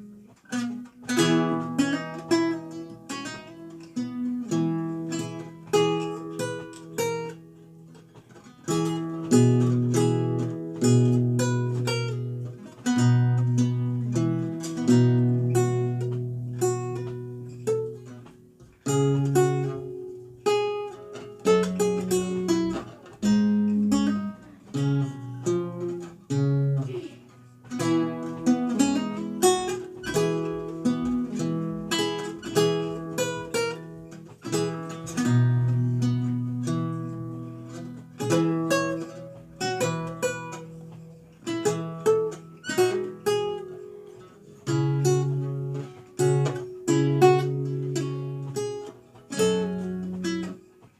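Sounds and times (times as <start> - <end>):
lute plucked notes and chords: 0.0 - 50.9.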